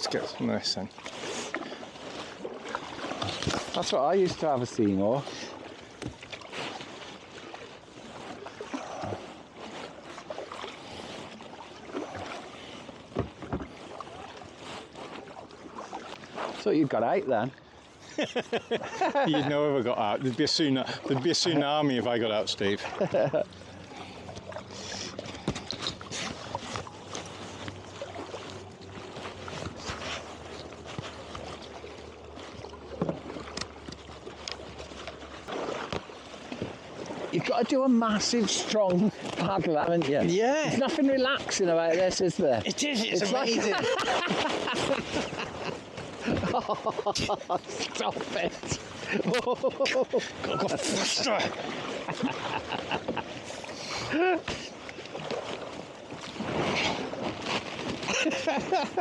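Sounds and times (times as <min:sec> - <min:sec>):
kayak paddles splashing: 0:00.0 - 0:59.0
water lapping at hull: 0:00.0 - 0:59.0.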